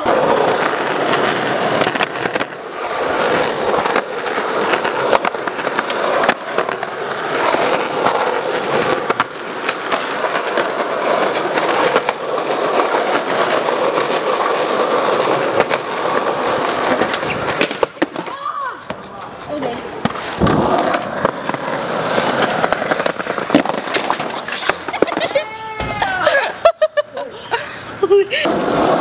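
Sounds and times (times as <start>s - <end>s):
skateboard clacking on ground: 0.0s - 26.7s
skateboard wheels rolling on concrete: 0.0s - 29.0s.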